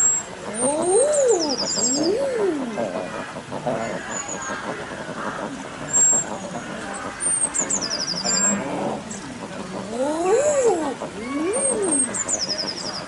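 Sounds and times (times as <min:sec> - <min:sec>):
songbird chirping: 0:00.0 - 0:04.9, 0:05.5 - 0:13.0
eider duck cooing call: 0:00.0 - 0:13.0.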